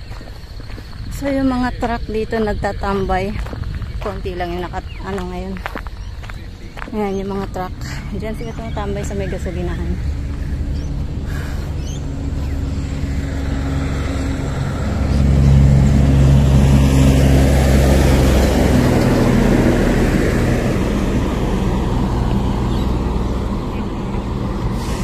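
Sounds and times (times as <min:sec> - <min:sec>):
tyre and road noise: 0:00.0 - 0:25.0
vehicle engine drone: 0:00.0 - 0:25.0.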